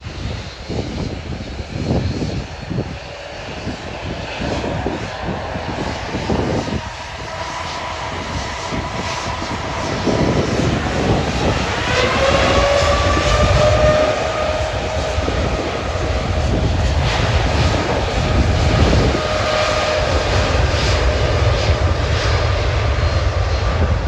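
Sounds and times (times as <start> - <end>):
jet engines whining: 0.0 - 24.0
wind buffeting microphone: 0.0 - 24.0.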